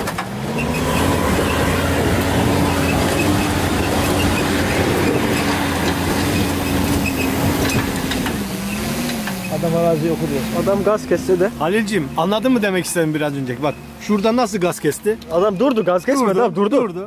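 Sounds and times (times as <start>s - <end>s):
off-road vehicle engine revving: 0.0s - 16.6s.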